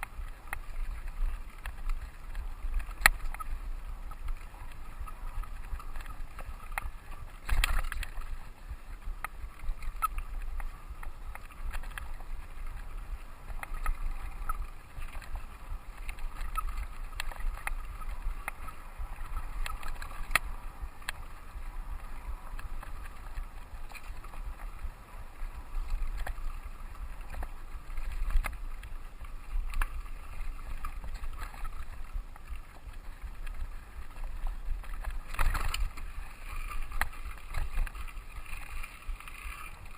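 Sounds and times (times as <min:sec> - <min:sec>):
wind on camera microphone: 0:00.0 - 0:39.9.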